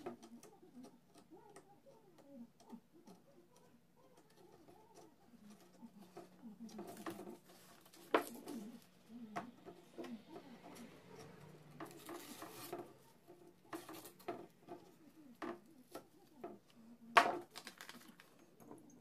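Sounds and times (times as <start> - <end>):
wooden pieces clicking and tapping: 0.0 - 19.0.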